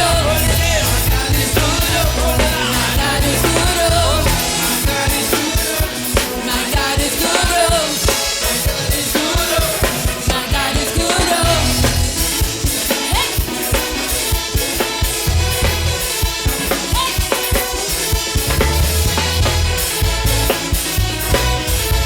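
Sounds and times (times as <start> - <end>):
drum kit beat: 0.0 - 22.0
live band music: 0.0 - 22.0.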